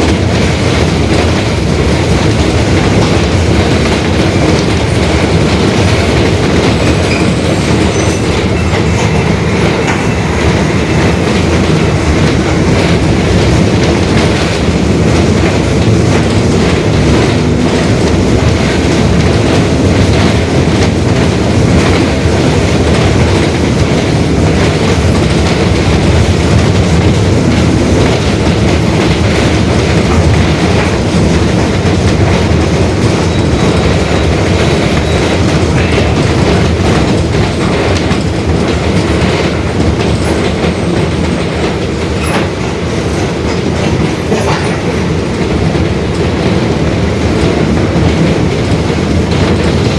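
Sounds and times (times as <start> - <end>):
bus diesel engine rumble: 0.0 - 49.9
constant rattling: 0.0 - 49.9.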